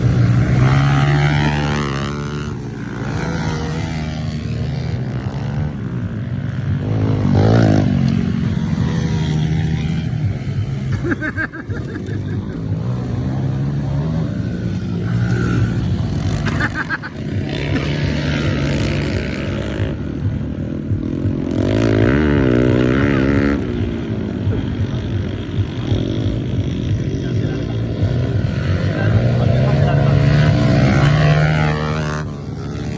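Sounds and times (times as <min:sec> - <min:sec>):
motocross bikes revving: 0:00.0 - 0:32.9.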